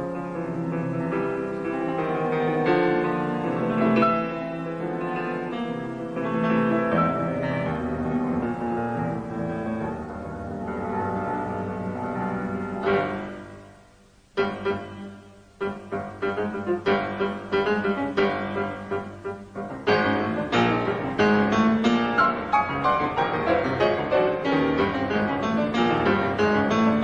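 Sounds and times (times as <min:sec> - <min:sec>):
grand piano playing: 0:00.0 - 0:27.0.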